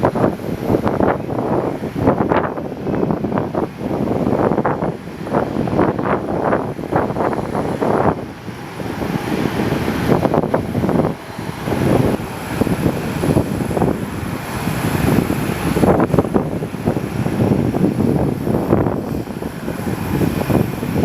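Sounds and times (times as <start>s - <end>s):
aircraft engine noise: 0.0s - 21.0s
wind buffeting microphone: 0.0s - 21.0s.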